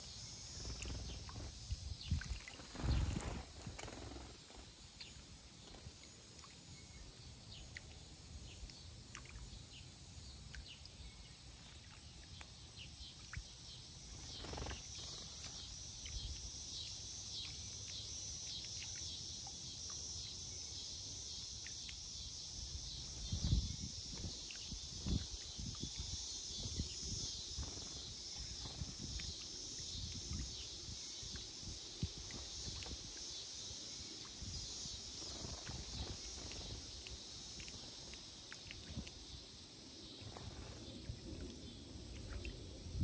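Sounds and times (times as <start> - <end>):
high insect buzz: 0.0 - 7.5, 13.8 - 43.0.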